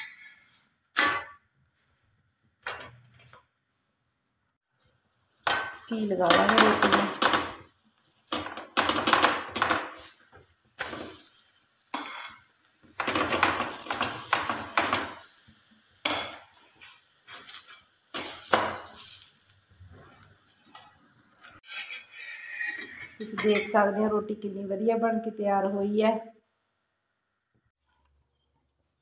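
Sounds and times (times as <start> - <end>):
ghee sizzling on hot pan: 0.0 - 23.8.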